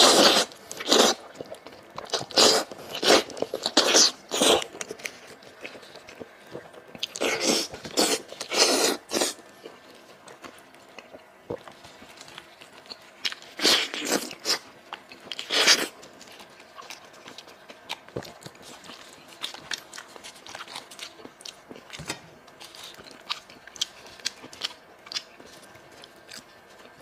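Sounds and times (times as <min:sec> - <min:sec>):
chewing and tearing meat: 0:00.0 - 0:27.0.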